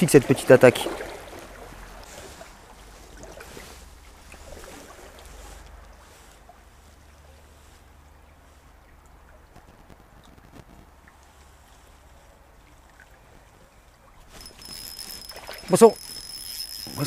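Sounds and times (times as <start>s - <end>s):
stream flowing: 0.0s - 17.0s.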